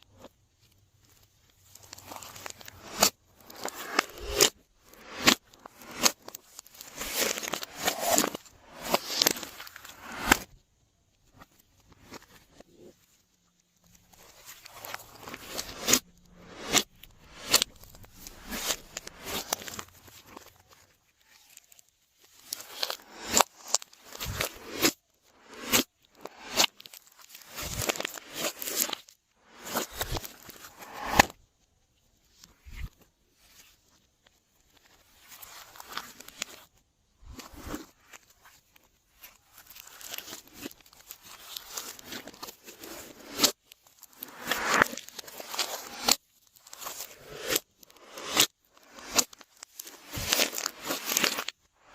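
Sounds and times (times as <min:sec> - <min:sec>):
slime squishing and crackling: 0:00.0 - 0:31.3, 0:37.5 - 0:51.9.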